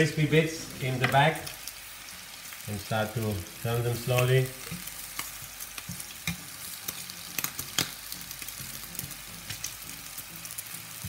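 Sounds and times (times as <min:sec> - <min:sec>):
bacon sizzling in a frying pan: 0:00.0 - 0:11.0.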